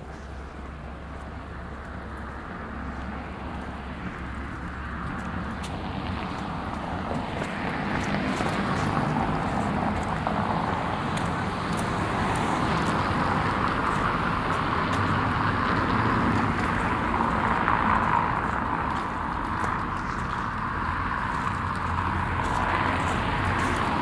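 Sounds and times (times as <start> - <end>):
footsteps on gravel: 0.0 - 24.0
passing cars: 0.0 - 24.0.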